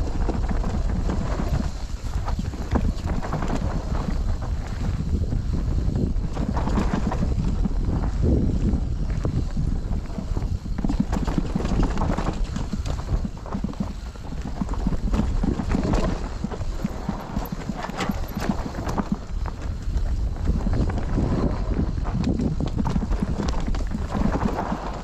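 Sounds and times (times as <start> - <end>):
mountain bike clattering over rocks: 0.0 - 25.0
steady low rumble: 0.0 - 25.0.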